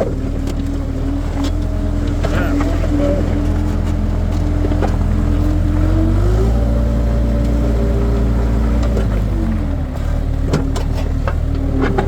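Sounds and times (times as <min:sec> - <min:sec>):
whine: 0:00.0 - 0:10.0
skid steer engine under load: 0:00.0 - 0:12.0.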